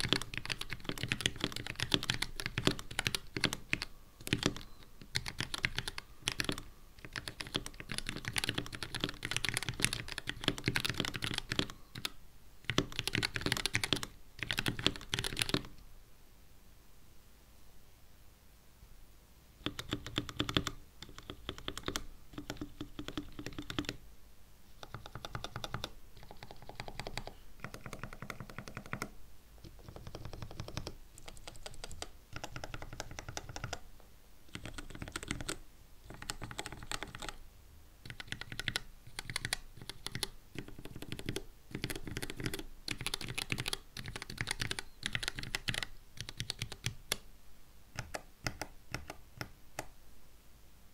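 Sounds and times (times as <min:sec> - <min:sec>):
mechanical keyboard keys clicking: 0:00.0 - 0:15.7, 0:19.6 - 0:24.0, 0:24.8 - 0:33.8, 0:34.5 - 0:37.4, 0:38.1 - 0:47.2, 0:48.0 - 0:49.9.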